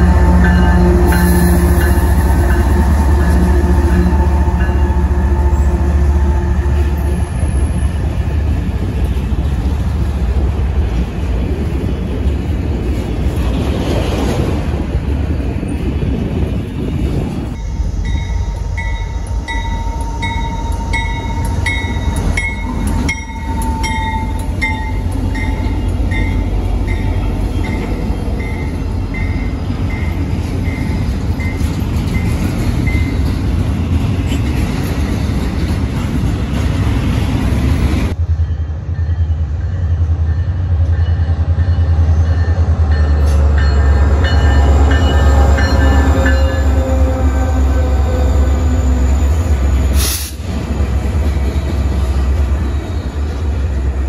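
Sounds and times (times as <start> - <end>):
diesel locomotive engines droning: 0.0 - 54.0
rail cars rumbling and clattering: 0.0 - 54.0.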